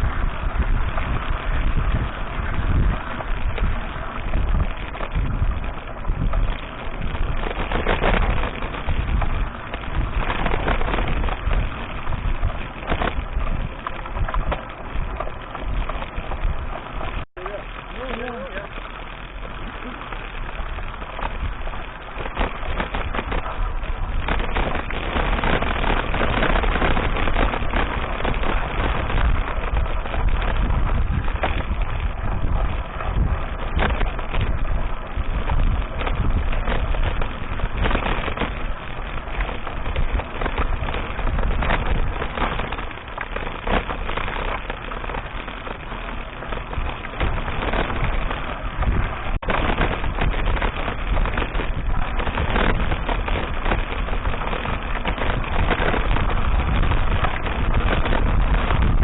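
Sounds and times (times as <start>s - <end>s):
bike knocking and rattling: 0.0s - 59.0s
wind buffeting microphone: 0.0s - 59.0s.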